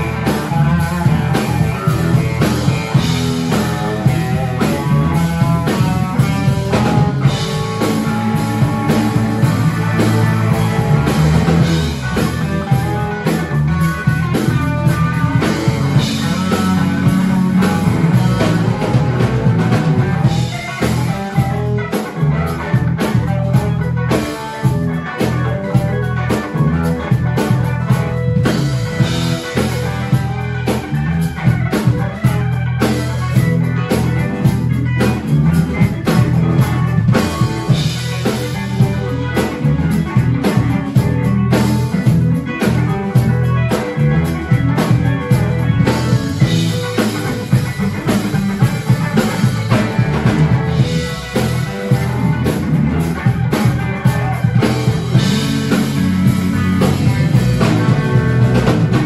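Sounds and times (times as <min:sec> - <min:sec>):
bass guitar: 0:00.0 - 0:59.0
drum kit: 0:00.0 - 0:59.0
electric guitar: 0:00.0 - 0:59.0
keyboards: 0:00.0 - 0:59.0.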